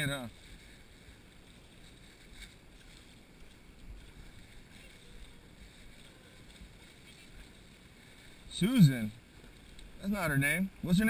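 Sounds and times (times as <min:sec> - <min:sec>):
river water washing: 0:00.0 - 0:11.0.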